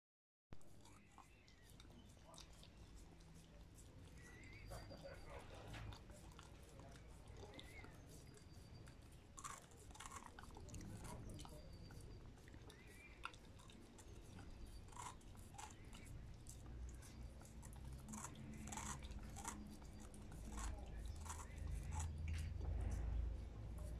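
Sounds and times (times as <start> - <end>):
dog licking and chewing: 0.6 - 23.9.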